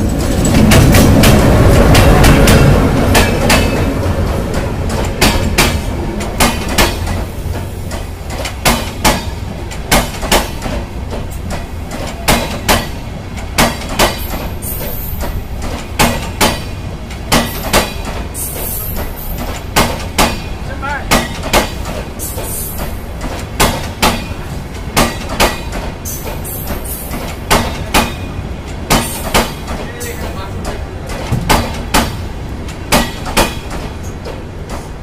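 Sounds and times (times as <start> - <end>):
low rumble of train: 0.0 - 35.0
train wheels clicking over rail joints: 0.0 - 35.0.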